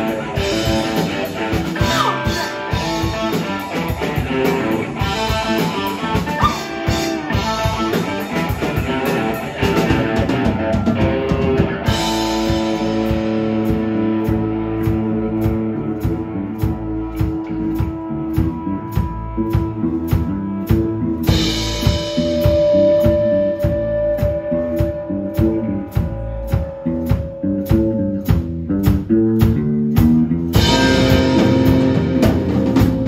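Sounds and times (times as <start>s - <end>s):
drum kit: 0.0s - 33.0s
electric guitars: 0.0s - 33.0s.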